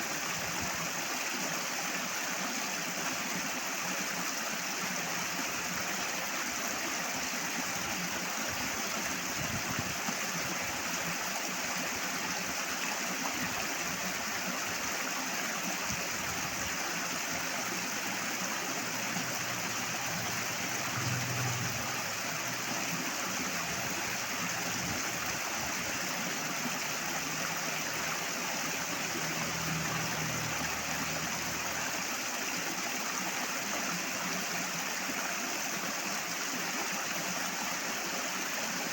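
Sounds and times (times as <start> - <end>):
water rushing loudly: 0.0 - 38.9.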